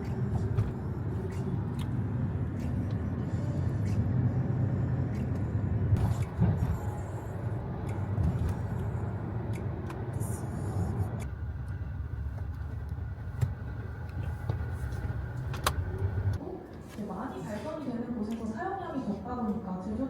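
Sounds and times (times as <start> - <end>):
road vehicle rumble: 0.0 - 16.4.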